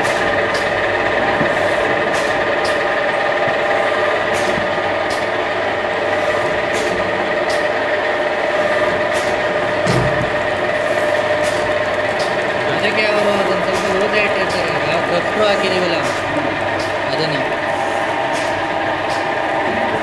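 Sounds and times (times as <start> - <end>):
machine motor hum: 0.0 - 20.0
spinning whine: 0.0 - 20.0.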